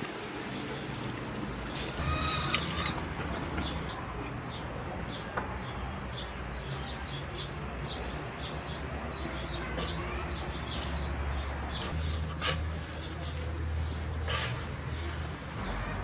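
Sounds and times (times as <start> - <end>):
small birds chirping: 0.7 - 16.0.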